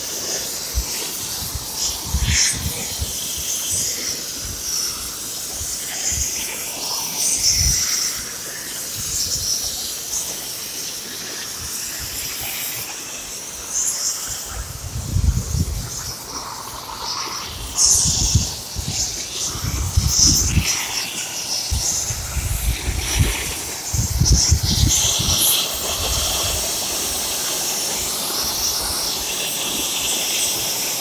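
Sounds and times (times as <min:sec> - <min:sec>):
cutting torch hissing: 0:00.0 - 0:31.0.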